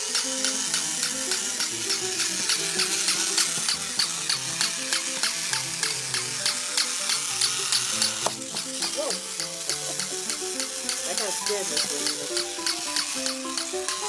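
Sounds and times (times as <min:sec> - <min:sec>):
music with a quick steady beat: 0:00.0 - 0:14.0
toy motor and gears whirring: 0:00.0 - 0:14.0.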